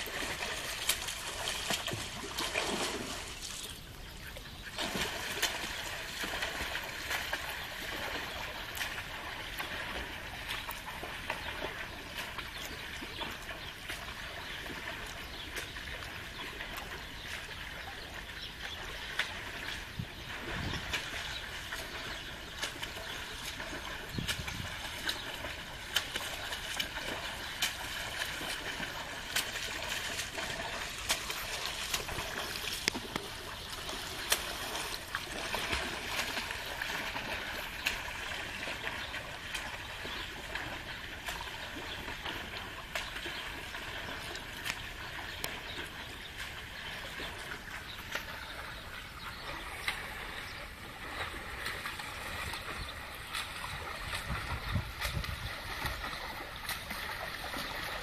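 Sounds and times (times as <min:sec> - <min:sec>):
water splashing from swimming: 0:00.0 - 0:58.0.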